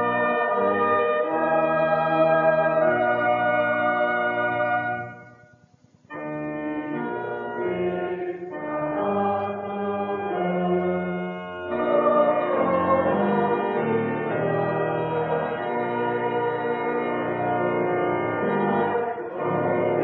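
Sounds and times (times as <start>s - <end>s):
pipe organ playing sustained chords: 0.0s - 20.0s.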